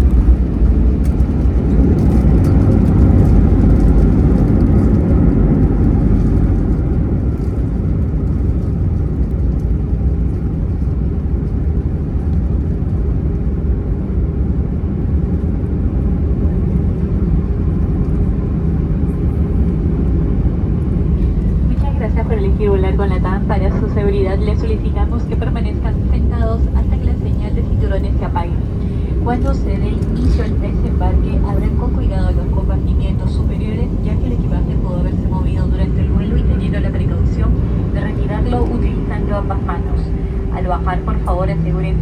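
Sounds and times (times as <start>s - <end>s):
aircraft engine noise: 0.0s - 42.0s
runway rumble: 0.0s - 42.0s.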